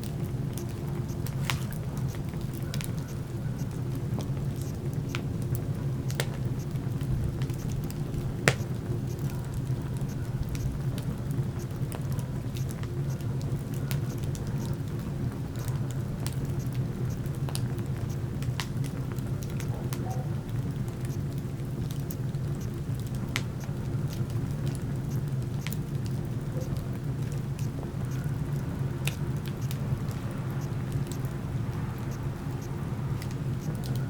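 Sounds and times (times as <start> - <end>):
low fire rumble: 0.0 - 34.0
wood fire crackling and popping: 0.0 - 34.0.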